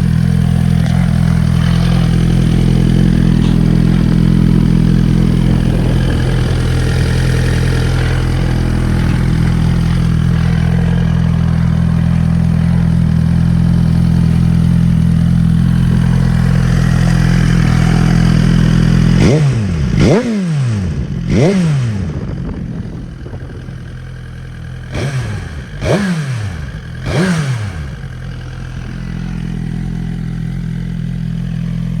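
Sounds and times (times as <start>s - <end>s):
motorcycle engine idling: 0.0s - 32.0s
motorcycle engine revving: 0.0s - 32.0s.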